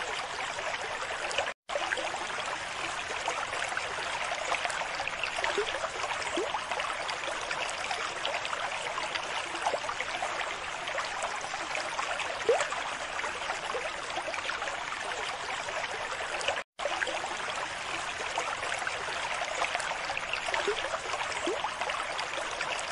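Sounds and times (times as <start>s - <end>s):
aquarium water trickling and bubbling: 0.0s - 22.9s.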